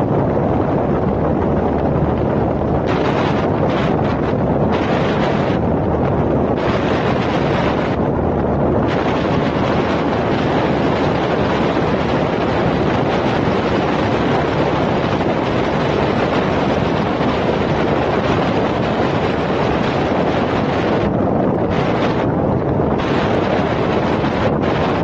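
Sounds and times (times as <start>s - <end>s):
moving vehicle rushing noise: 0.0s - 25.0s
wind buffeting microphone: 0.0s - 25.0s.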